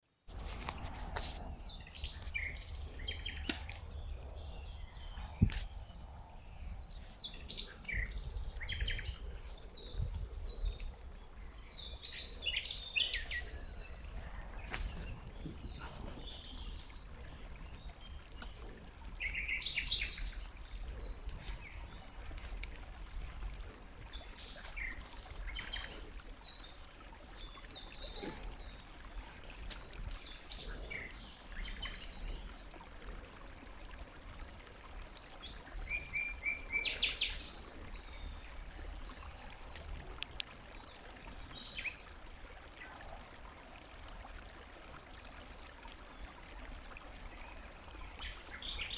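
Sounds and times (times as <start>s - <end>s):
songbirds chirping and trilling: 0.3s - 43.2s, 43.8s - 48.9s.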